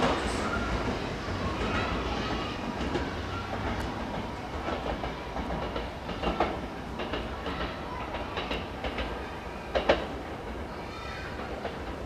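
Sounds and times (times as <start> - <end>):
electric train rumbling: 0.0 - 12.0
wheels clacking over rail joints: 0.0 - 12.0.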